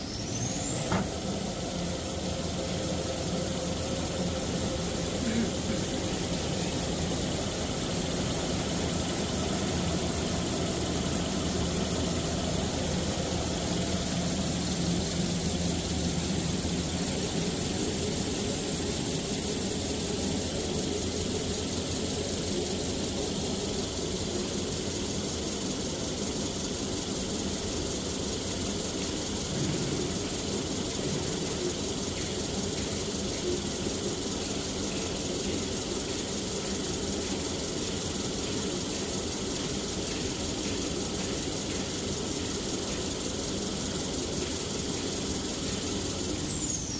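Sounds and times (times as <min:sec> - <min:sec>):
high-pitched machine whine: 0:00.0 - 0:46.9
machine hum: 0:00.0 - 0:46.9.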